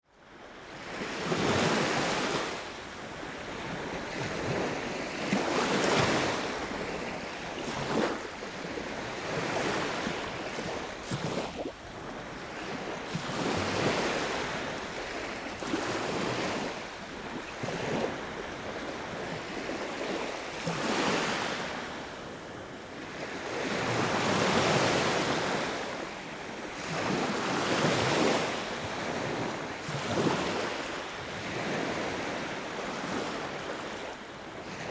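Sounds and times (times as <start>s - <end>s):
sea waves breaking on shore: 0.5s - 34.9s.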